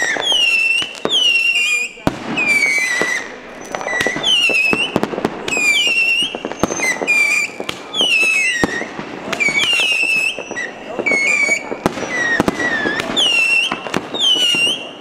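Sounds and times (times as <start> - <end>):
firework pops and cracks: 0.0 - 15.0
whistling firework launches: 0.0 - 15.0.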